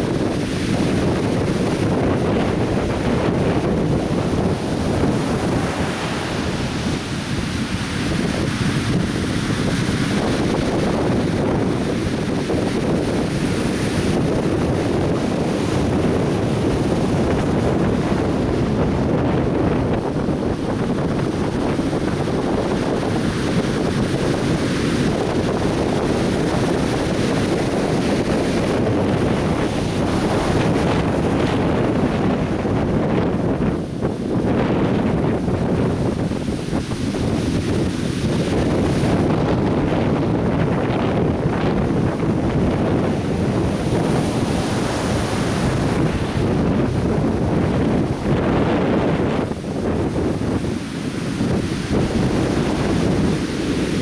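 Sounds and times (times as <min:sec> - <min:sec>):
surf washing onto beach: 0:00.0 - 0:54.0
wind buffeting microphone: 0:00.0 - 0:54.0.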